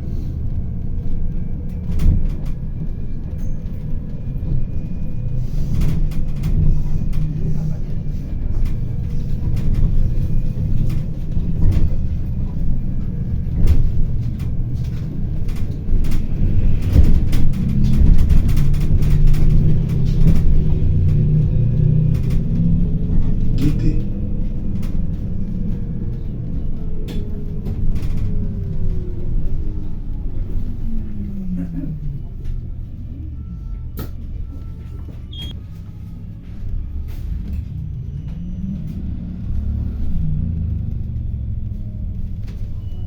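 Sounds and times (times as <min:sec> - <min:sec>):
bus drivetrain and road rumble: 0:00.0 - 0:43.0.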